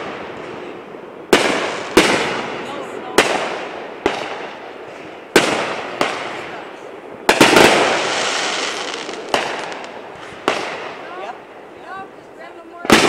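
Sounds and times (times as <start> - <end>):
fireworks bangs: 0.0 - 13.0
fireworks hiss: 0.0 - 13.0.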